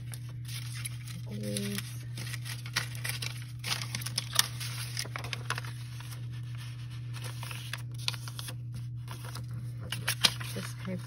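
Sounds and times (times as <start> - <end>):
paper rustling: 0.0 - 11.0
steady low hum: 0.0 - 11.0.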